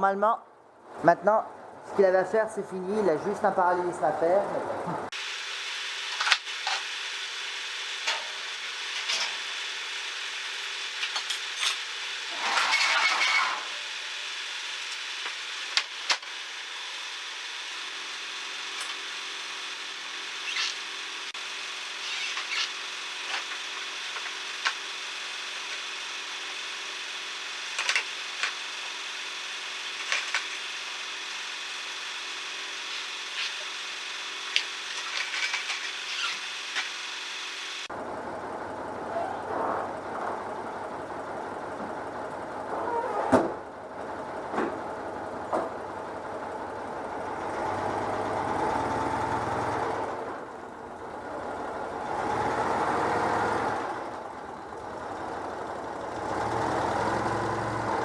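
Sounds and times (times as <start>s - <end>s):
air-cooled engine running: 5.1s - 39.1s, 43.6s - 58.0s.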